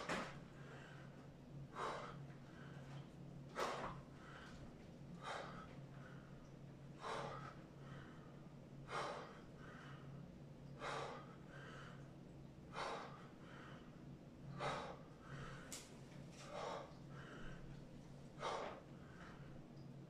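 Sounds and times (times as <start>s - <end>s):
man breathing hard: 0.5s - 12.0s, 12.7s - 19.7s.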